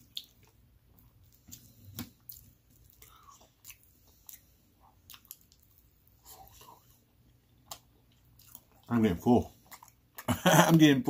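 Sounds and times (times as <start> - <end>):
person chewing food: 0.0 - 10.7.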